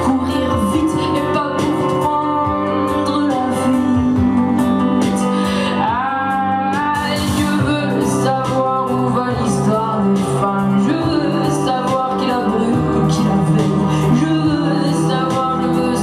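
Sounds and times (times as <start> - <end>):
instrumental accompaniment: 0.0 - 16.0
woman singing into microphone: 0.0 - 16.0.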